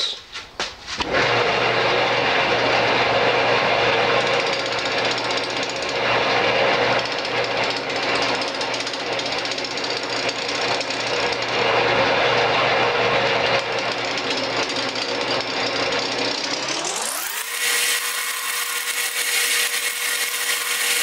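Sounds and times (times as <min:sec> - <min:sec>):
lathe hum: 0:01.0 - 0:21.0.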